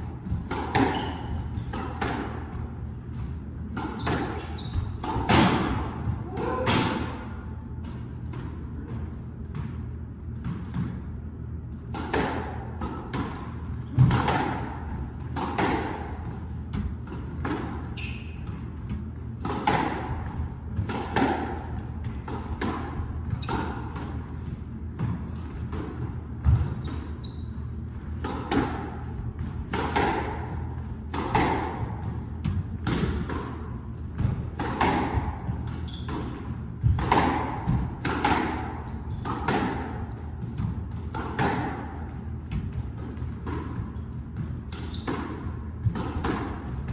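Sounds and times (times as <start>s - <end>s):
squash ball smacking rackets and walls: 0.0s - 46.9s
steady low hum: 0.0s - 46.9s.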